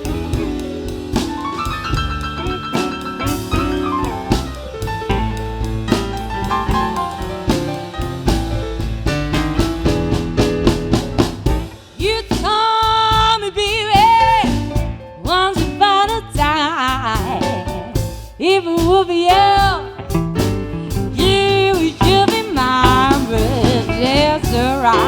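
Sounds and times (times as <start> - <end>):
live blues band playing: 0.0 - 25.0.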